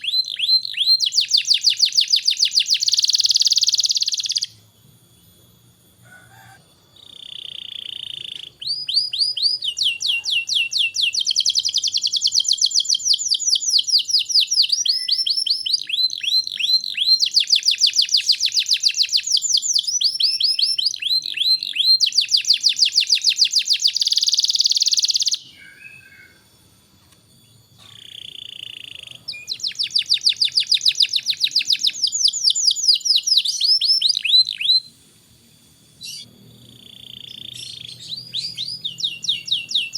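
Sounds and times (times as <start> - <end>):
canary singing trills: 0.0 - 26.5, 27.4 - 34.9, 36.0 - 39.9.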